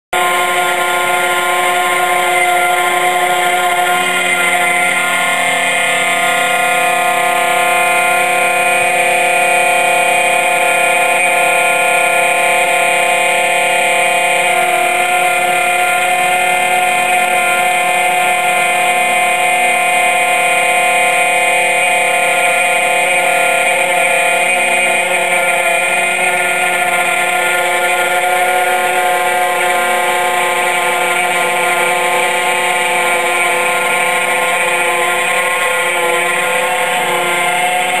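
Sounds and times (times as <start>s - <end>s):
metal cutting noise: 0.1s - 38.0s
milling spindle whine: 0.1s - 38.0s.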